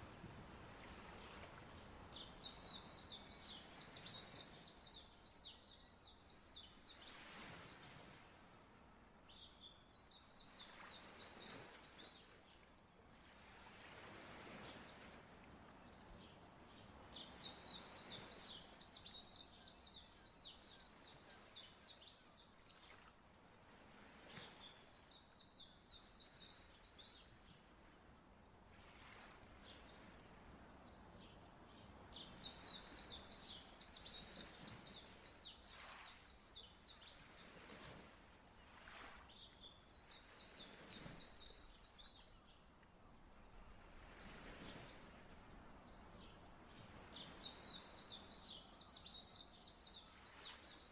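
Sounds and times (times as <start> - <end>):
songbird chirping: 0.0 - 12.7, 13.3 - 50.9
faint sea waves: 0.0 - 50.9.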